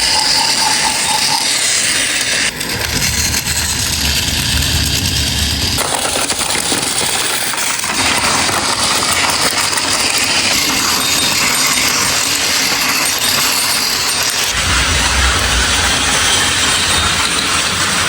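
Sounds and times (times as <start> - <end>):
toy trains rattling on plastic track: 0.0 - 18.0.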